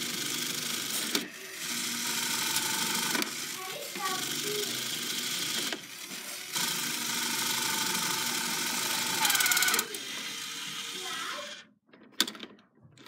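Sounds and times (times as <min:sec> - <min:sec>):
toy claw machine motors whirring: 0:00.0 - 0:11.7.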